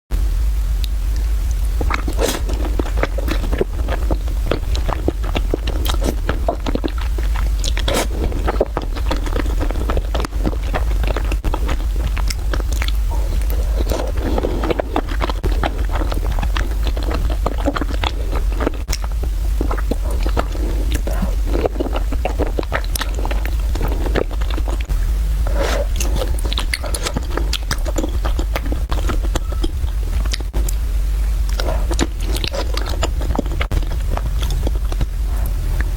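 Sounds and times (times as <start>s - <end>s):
low hum: 0.1s - 35.9s
person chewing crunchy noodles: 0.8s - 35.9s.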